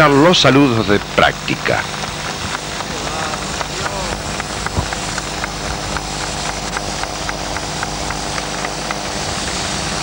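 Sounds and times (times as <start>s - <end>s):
aircraft engine hum: 0.0s - 10.0s.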